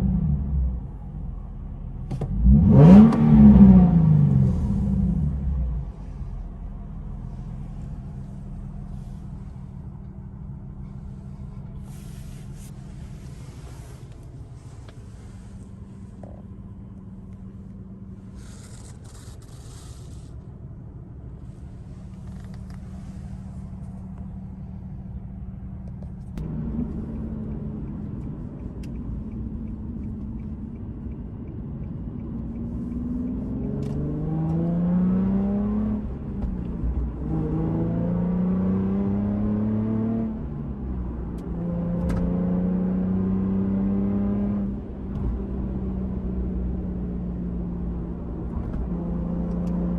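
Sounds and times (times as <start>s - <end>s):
car engine accelerating: 2.0s - 49.9s.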